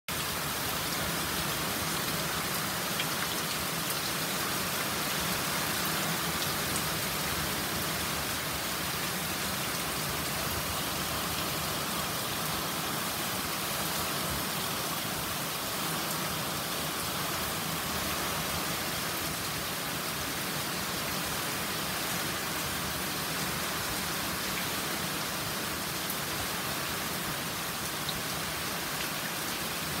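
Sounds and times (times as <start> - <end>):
heavy rain falling: 0.1 - 30.0.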